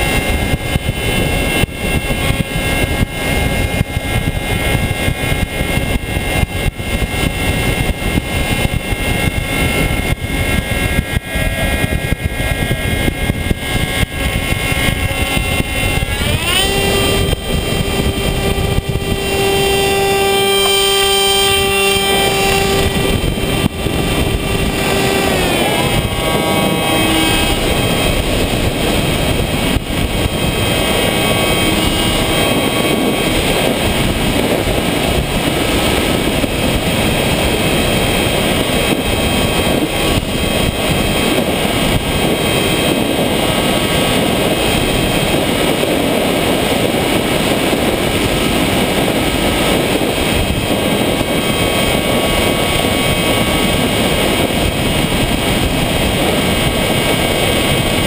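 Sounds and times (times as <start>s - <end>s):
model plane motor whining: 0.0s - 58.0s
wind rushing over airframe: 0.0s - 58.0s.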